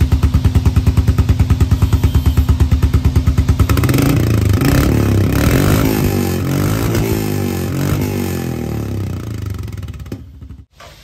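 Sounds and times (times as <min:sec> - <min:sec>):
motorcycle engine idling and revving: 0:00.0 - 0:10.8.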